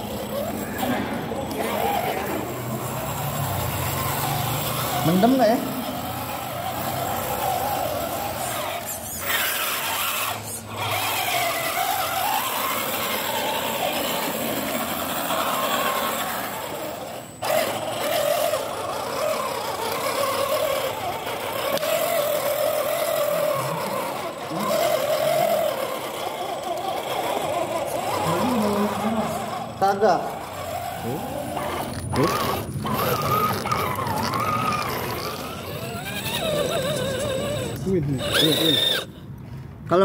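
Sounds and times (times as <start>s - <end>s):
electric motor and gearbox whining: 0.0s - 39.5s.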